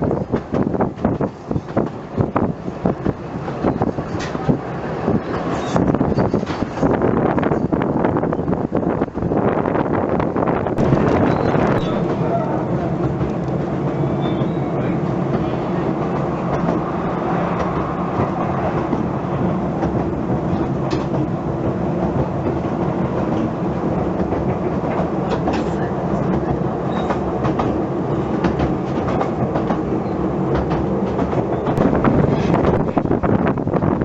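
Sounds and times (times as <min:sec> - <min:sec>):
wheels clicking on rails: 0:00.0 - 0:09.4, 0:10.2 - 0:34.0
train rumbling on track: 0:00.0 - 0:34.0.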